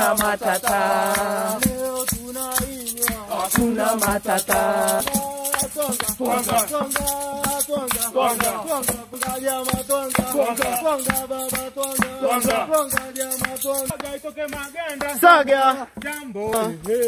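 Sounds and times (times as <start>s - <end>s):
men singing in chorus: 0.0s - 17.0s
shakers rattling: 0.0s - 17.0s.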